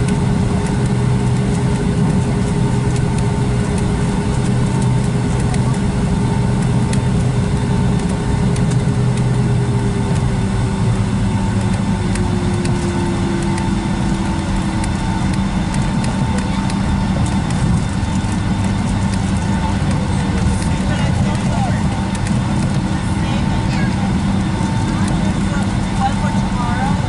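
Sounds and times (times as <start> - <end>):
jet engines idling: 0.0 - 27.0.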